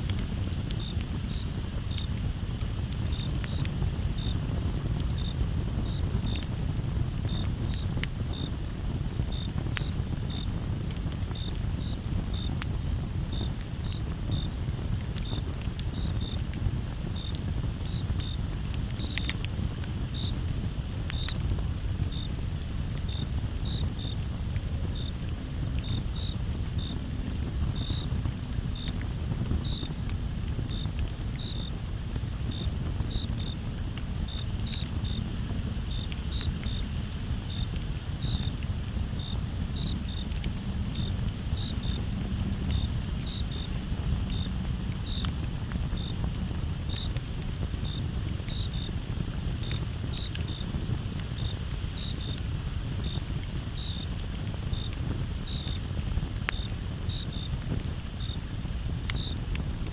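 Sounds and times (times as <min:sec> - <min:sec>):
campfire crackling and popping: 0:00.0 - 0:59.9
crickets chirping: 0:00.0 - 0:59.9
high insect trill: 0:00.4 - 0:54.9, 0:55.5 - 0:59.7.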